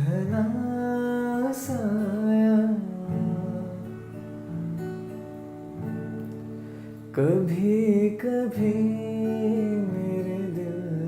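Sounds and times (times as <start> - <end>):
acoustic guitar strummed gently: 0.0 - 11.0.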